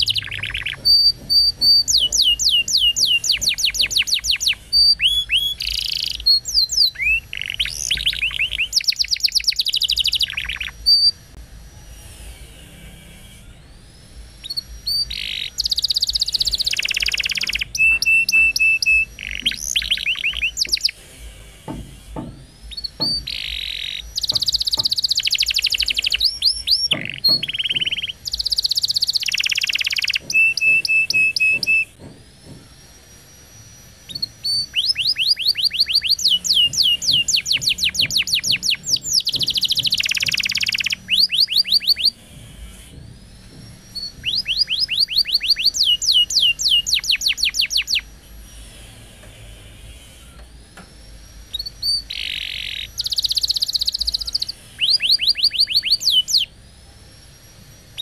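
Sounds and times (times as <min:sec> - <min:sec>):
canary singing fast trills: 0:00.0 - 0:11.4, 0:12.1 - 0:21.0, 0:21.6 - 0:32.0, 0:33.2 - 0:49.0, 0:51.3 - 0:56.7.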